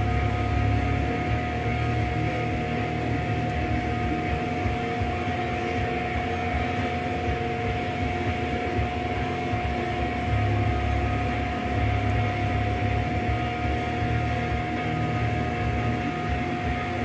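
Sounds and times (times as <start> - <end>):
sustained droning music: 0.0 - 17.0.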